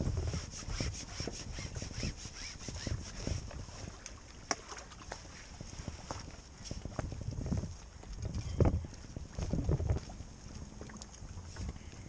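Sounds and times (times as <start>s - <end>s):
wind on microphone: 0.0s - 4.0s, 5.0s - 12.0s
water lapping and splashing: 0.0s - 12.0s.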